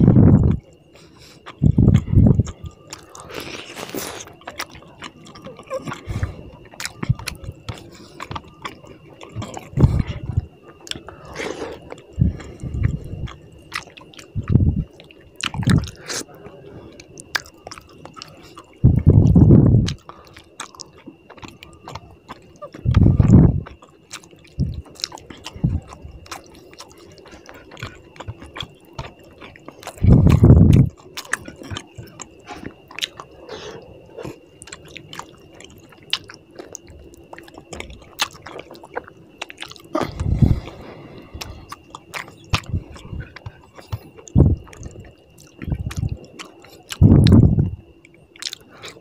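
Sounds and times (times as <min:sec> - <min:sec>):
chewing with wet mouth clicks: 0:00.0 - 0:49.0.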